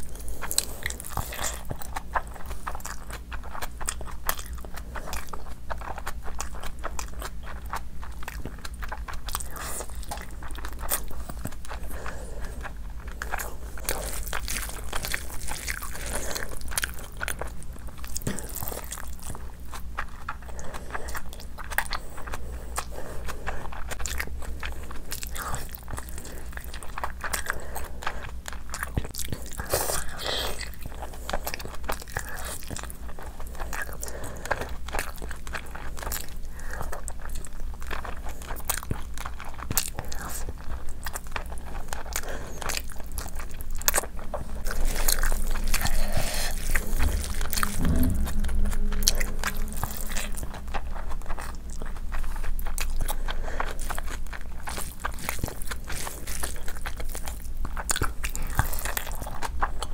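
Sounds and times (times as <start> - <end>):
person chewing meat: 0.0 - 59.9.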